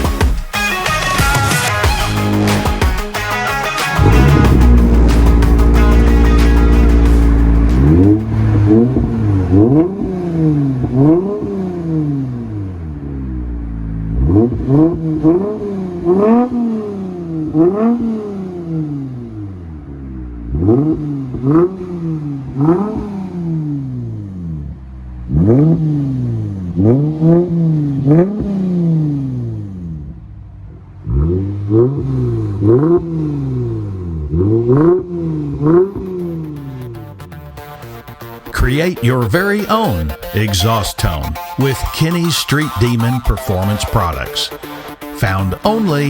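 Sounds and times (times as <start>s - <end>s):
car engine revving: 1.1s - 46.0s
car engine idling: 1.8s - 25.4s, 29.4s - 46.0s.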